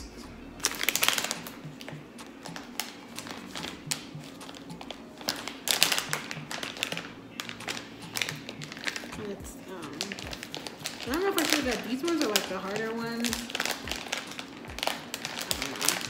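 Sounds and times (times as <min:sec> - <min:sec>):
quiet background music: 0:00.0 - 0:16.0
plastic snack bag crinkling: 0:00.6 - 0:16.0.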